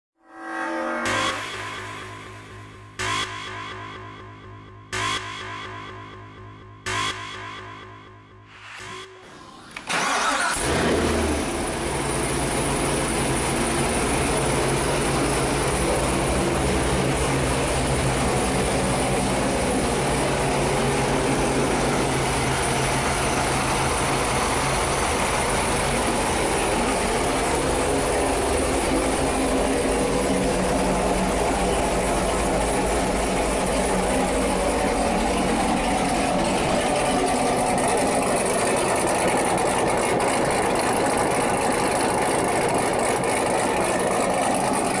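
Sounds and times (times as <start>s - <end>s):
car engine starting and idling: 1.1s - 45.0s.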